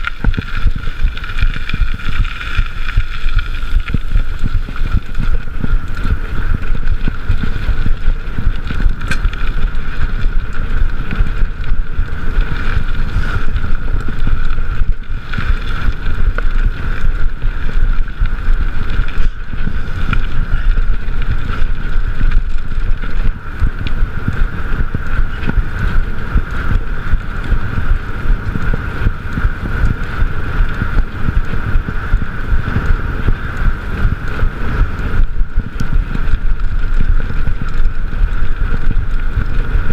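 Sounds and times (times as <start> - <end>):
bike tyres rumbling and rattling: 0.0 - 39.9
wind buffeting microphone: 0.0 - 39.9.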